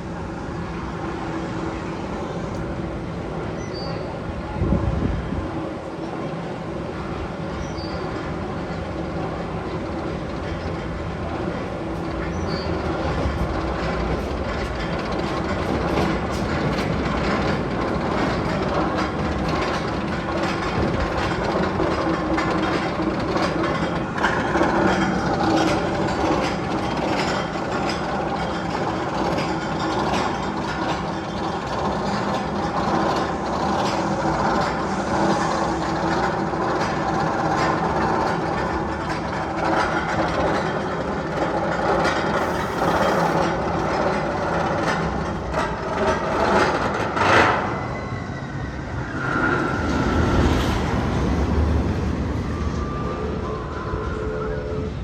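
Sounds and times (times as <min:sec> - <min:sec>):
rumbling clatter: 0:07.2 - 0:53.2.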